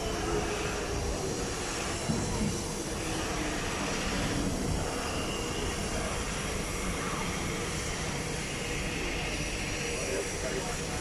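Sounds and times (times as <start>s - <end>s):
high whine of motors and brakes: 0.0s - 11.0s
train wheels rumbling on rail: 0.0s - 11.0s.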